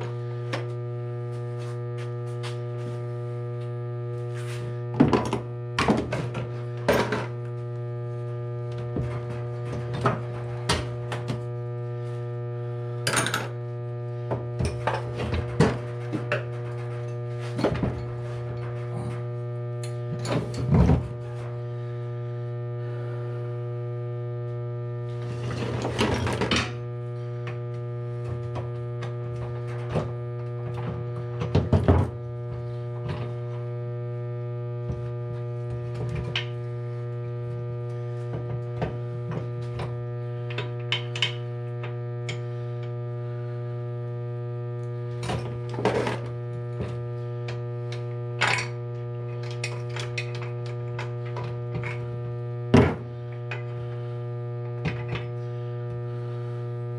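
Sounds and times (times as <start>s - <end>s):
steady electrical hum: 0.0s - 56.9s.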